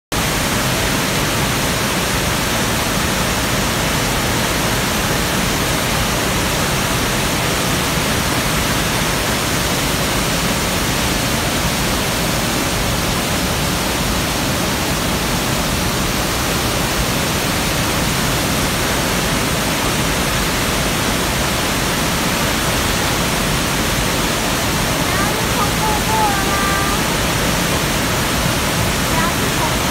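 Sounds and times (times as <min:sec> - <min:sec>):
waterfall rushing: 0:00.1 - 0:29.9.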